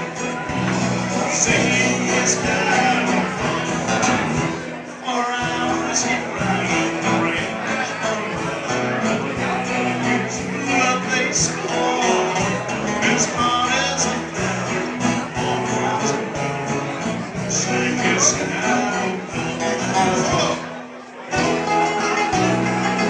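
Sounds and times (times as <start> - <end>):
live country band playing a waltz: 0.0 - 23.0.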